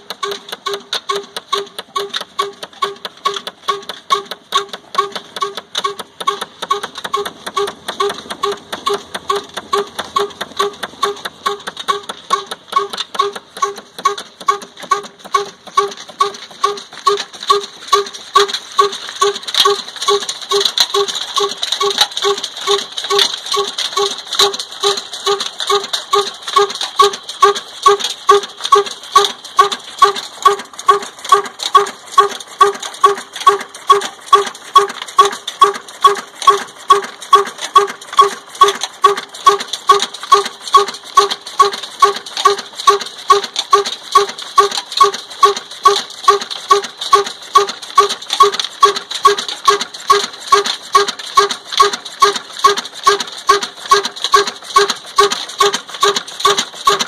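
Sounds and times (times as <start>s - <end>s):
stationary diesel engine knocking: 0.0s - 57.0s.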